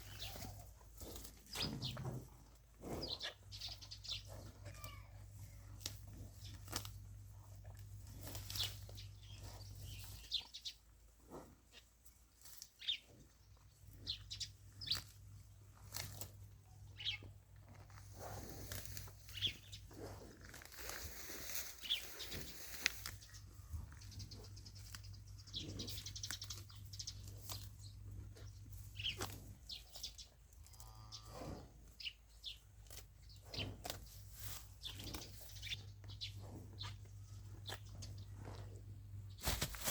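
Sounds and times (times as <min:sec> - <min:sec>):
animal chewing grass: 0:00.0 - 0:39.9.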